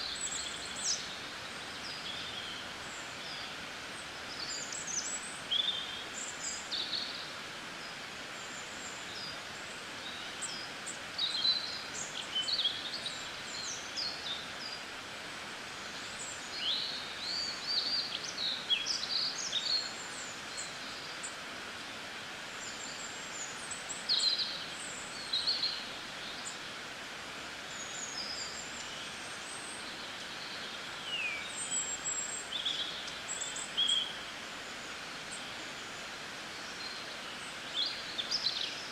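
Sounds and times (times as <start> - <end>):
small birds chirping: 0.0 - 38.9
steady background hiss: 0.0 - 38.9.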